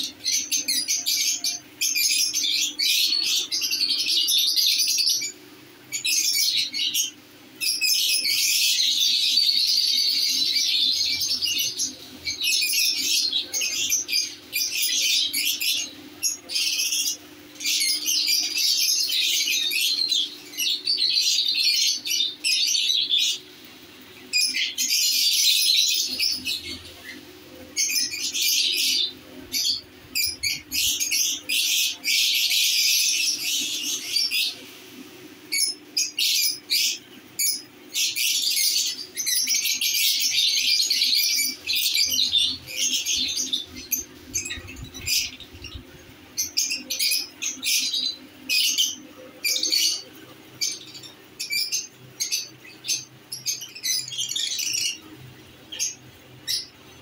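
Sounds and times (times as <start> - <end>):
faint steady hum: 0.0 - 57.0
lovebirds twittering and squawking: 0.0 - 57.0.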